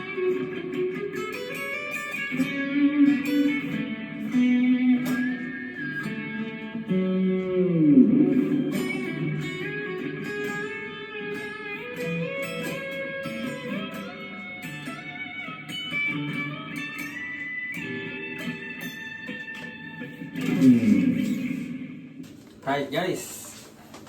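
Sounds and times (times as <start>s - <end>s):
electric guitar lead lines: 0.0s - 23.3s.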